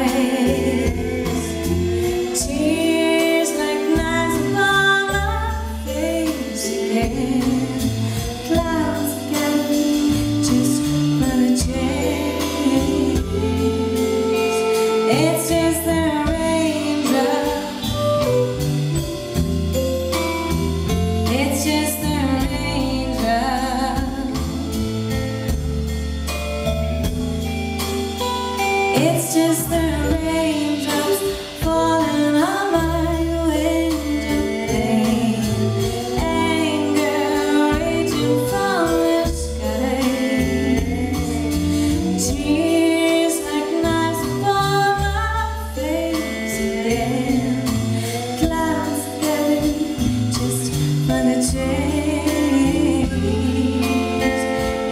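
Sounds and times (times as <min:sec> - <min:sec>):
woman singing lead vocals: 0:00.0 - 0:19.1, 0:20.9 - 0:25.2, 0:28.6 - 0:54.9
live band with drums and guitars: 0:00.0 - 0:54.9.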